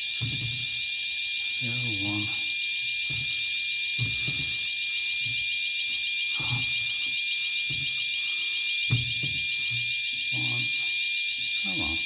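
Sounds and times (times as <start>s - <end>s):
fire alarm ringing: 0.0s - 12.0s.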